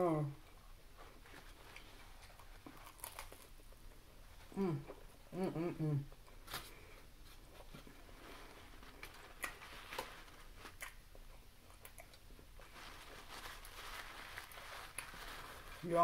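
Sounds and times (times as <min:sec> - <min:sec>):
chewing sandwich: 0:00.5 - 0:06.4, 0:07.3 - 0:15.8.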